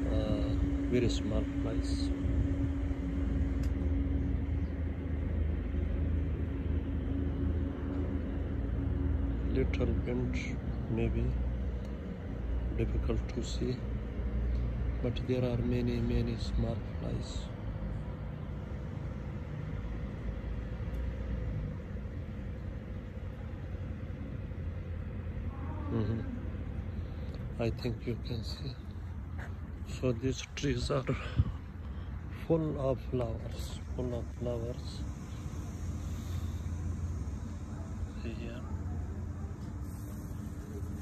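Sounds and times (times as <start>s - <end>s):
constant low hum: 0.0s - 41.0s
low background rumble: 0.0s - 41.0s.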